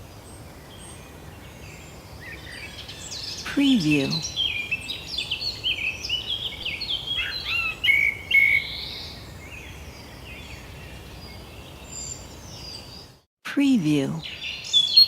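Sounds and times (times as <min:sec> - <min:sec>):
birds chirping: 0:00.0 - 0:13.2, 0:13.8 - 0:15.0.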